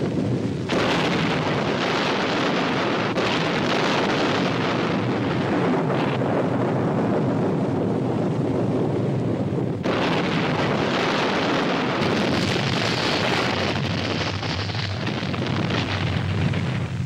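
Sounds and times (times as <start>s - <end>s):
explosion blast and rushing rumble: 0.0s - 17.0s.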